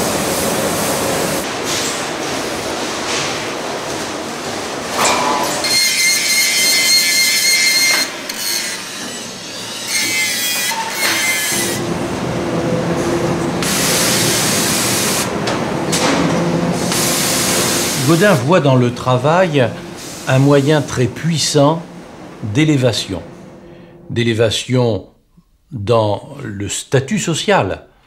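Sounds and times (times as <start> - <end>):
high machinery whine: 0.0 - 24.3
low machinery hum: 0.0 - 24.6.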